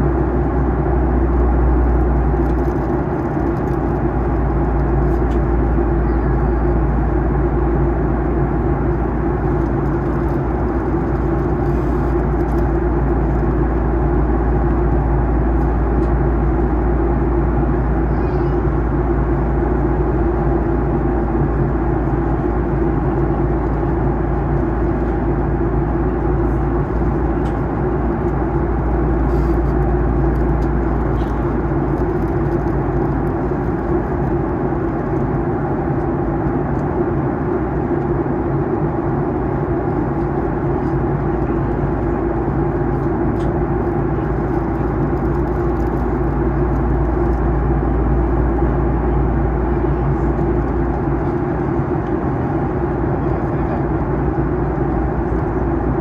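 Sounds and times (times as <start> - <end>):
cabin airflow rushing: 0.0 - 56.0
jet engines humming: 0.0 - 56.0.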